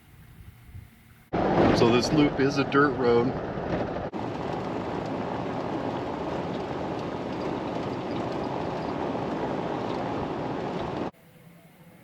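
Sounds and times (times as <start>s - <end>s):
tyre and road noise: 0.1s - 12.0s.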